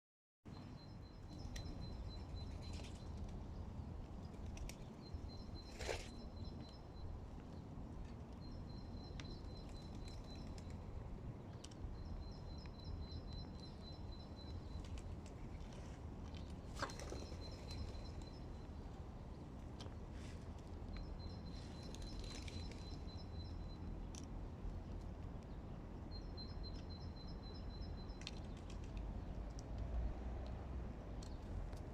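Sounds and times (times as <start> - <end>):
low background noise: 0.5 - 31.9.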